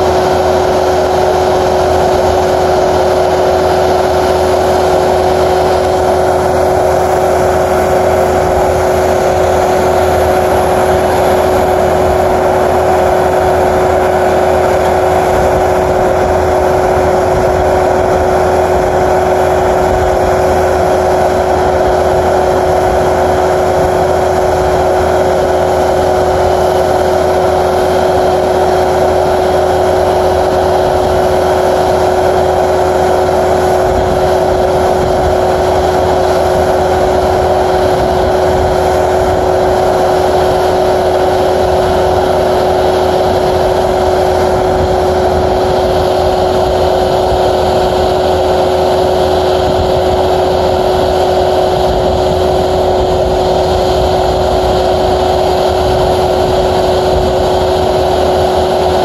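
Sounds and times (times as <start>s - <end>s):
diesel paving machinery droning: 0.0s - 59.0s.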